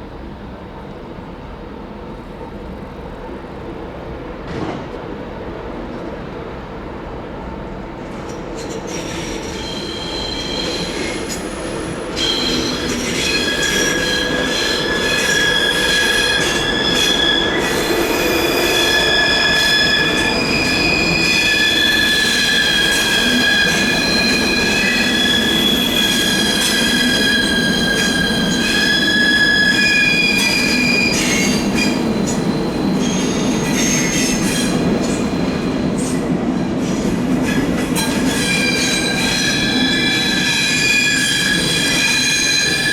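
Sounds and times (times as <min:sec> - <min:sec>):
train wheels squealing on rails: 0:07.6 - 0:42.9.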